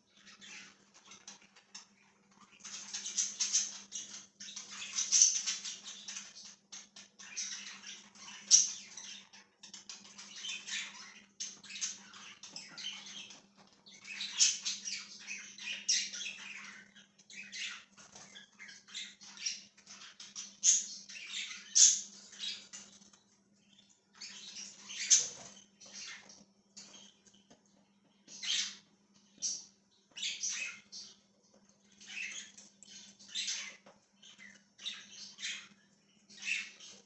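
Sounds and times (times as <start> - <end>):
budgerigars chirping: 0.1 - 31.2, 31.8 - 37.0.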